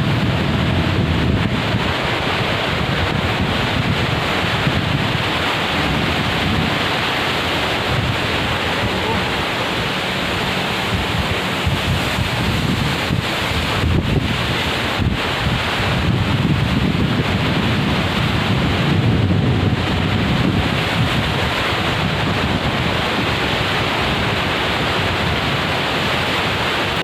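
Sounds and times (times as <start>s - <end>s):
waterfall rushing: 0.0s - 27.0s
wind buffeting microphone: 0.0s - 27.0s.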